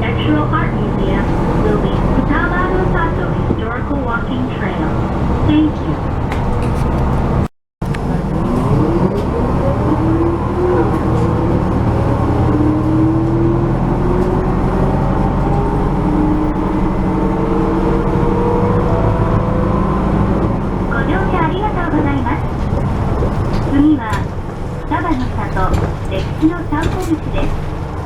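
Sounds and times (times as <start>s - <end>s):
bus engine and road rumble: 0.0s - 28.0s
drivetrain whine: 0.0s - 28.0s.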